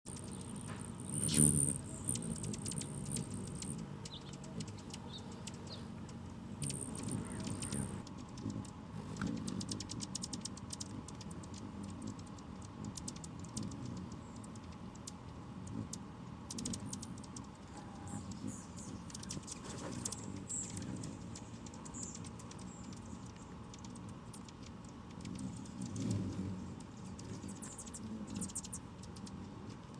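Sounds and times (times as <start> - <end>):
hummingbird high chips: 0.1 - 29.7
hummingbird ticking clicks: 0.1 - 29.9
low uneven rumble: 0.1 - 29.9.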